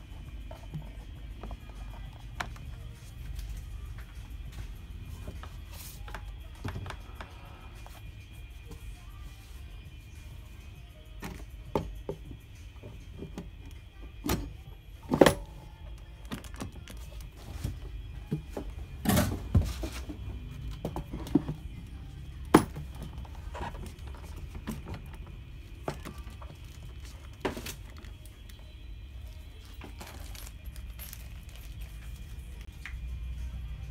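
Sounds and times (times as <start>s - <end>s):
background music: 0.0s - 33.9s.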